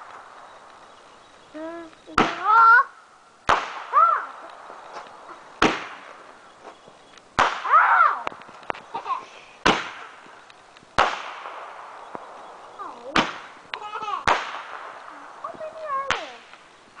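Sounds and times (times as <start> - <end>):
fireworks bangs: 1.6 - 16.7.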